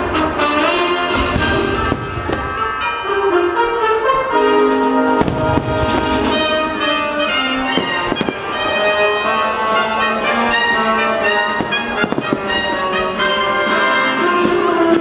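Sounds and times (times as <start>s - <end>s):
orchestral music: 0.0s - 15.0s
fireworks bangs: 0.6s - 3.0s, 4.9s - 15.0s.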